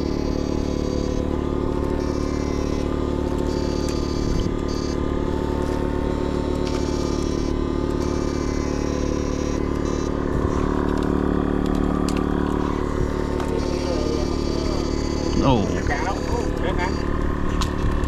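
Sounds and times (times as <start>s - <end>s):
high electrical whine: 0.0s - 18.0s
machine humming: 0.0s - 18.0s.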